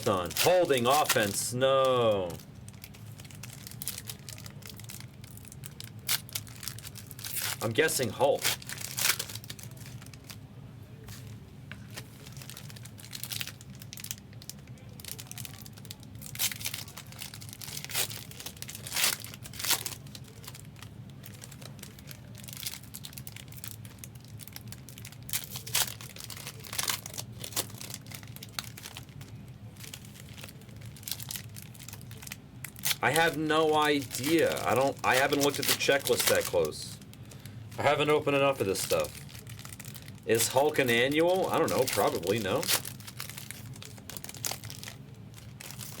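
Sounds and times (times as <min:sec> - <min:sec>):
foil wrappers tearing and crinkling: 0:00.0 - 0:10.4, 0:11.8 - 0:46.0.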